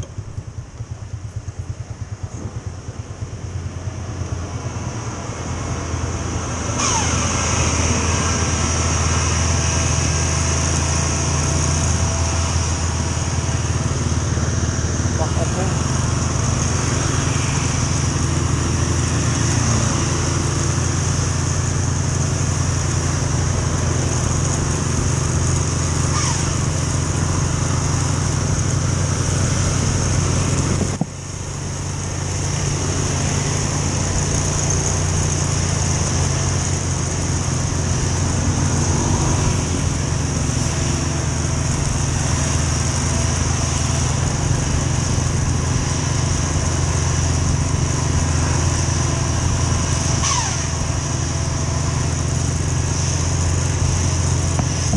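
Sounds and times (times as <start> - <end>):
road and wind noise: 0.0 - 54.9
small motorcycle engine running: 0.0 - 54.9.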